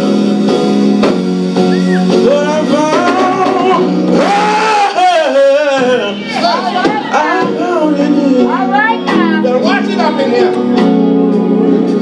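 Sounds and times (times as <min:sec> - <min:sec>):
guitar: 0:00.0 - 0:12.0
man singing gospel: 0:01.9 - 0:12.0.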